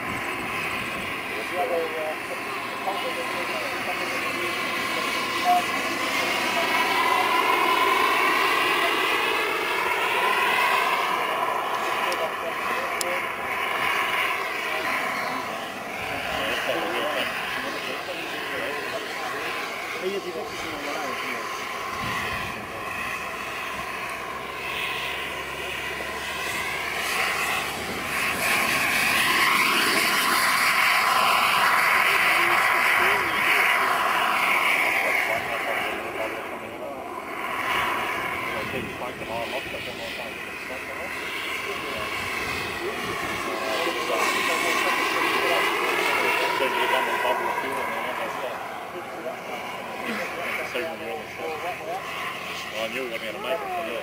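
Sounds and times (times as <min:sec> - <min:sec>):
helicopter rotor noise: 0:00.0 - 0:54.0
model helicopter turbine whine: 0:00.0 - 0:54.0.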